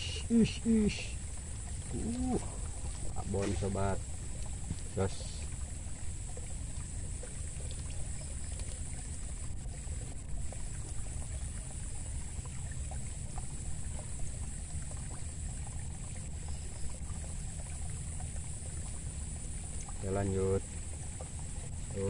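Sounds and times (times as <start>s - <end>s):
constant high-pitched hiss: 0.0s - 22.0s
faint small ticks: 0.9s - 22.0s.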